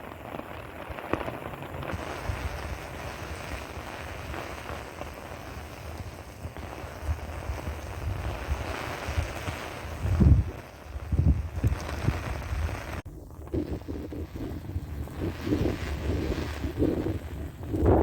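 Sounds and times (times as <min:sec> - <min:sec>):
steady rain falling: 0:00.0 - 0:13.0, 0:13.7 - 0:18.0
wind buffeting microphone: 0:01.2 - 0:18.0.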